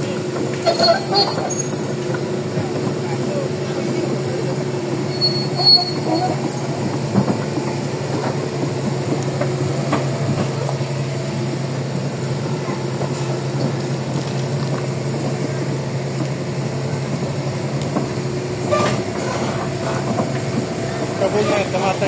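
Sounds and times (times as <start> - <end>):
diesel engine drone: 0.0 - 22.0
tracks clanking: 0.0 - 22.0.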